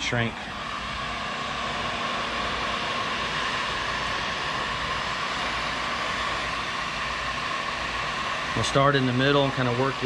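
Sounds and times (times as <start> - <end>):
heat gun fan whining: 0.0 - 10.0.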